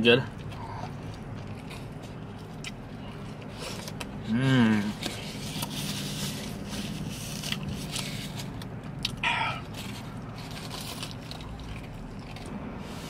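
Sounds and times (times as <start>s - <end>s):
person chewing: 0.3s - 6.0s, 7.1s - 12.6s.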